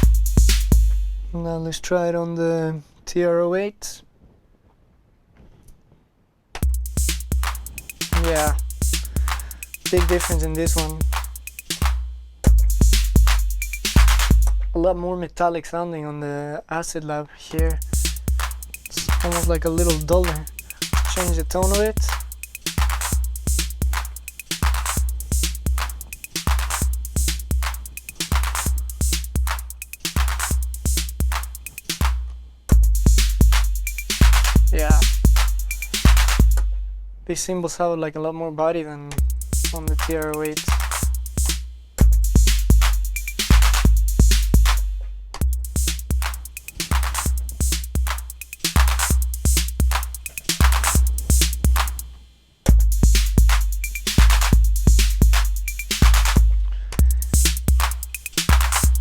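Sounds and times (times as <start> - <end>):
sharp hi-hat ticks: 0.0 - 1.1, 6.6 - 14.6, 17.6 - 36.7, 39.2 - 59.0
booming bass drum: 0.0 - 1.4, 6.6 - 14.8, 17.6 - 36.9, 39.2 - 52.0, 52.7 - 59.0.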